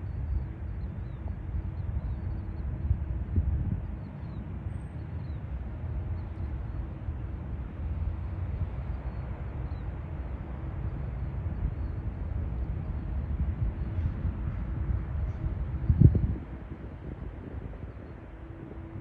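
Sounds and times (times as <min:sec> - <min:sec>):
distant jet engines rumbling: 0:00.0 - 0:19.0
faint steady hum: 0:00.0 - 0:19.0.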